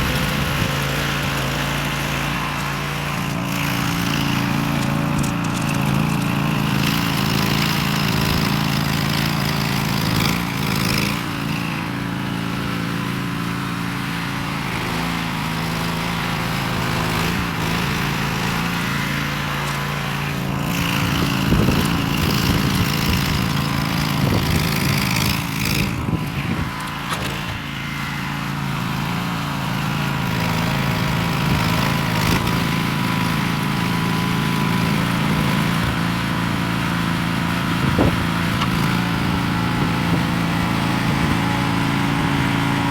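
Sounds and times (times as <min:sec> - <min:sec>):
rototiller engine running: 0:00.0 - 0:42.9.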